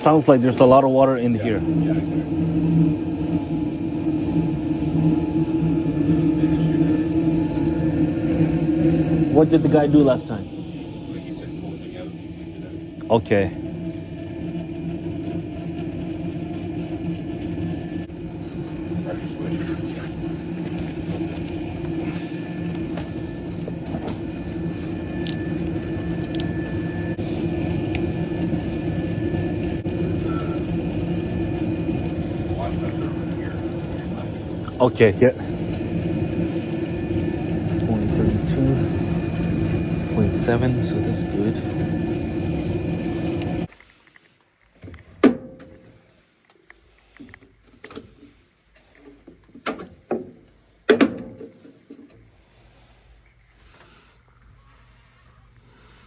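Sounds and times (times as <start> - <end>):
gas furnace motor hum: 0.0 - 43.9, 44.8 - 46.2.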